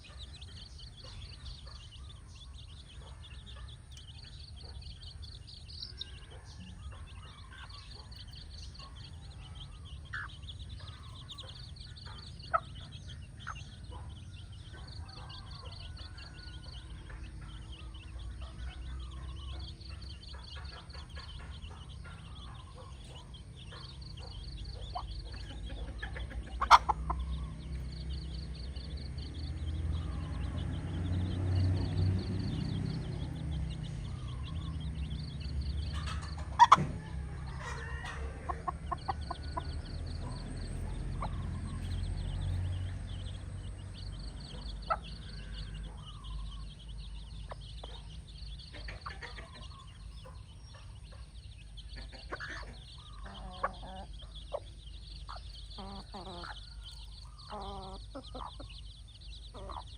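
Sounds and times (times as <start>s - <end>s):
hen clucking: 0.0s - 28.8s, 31.4s - 59.9s.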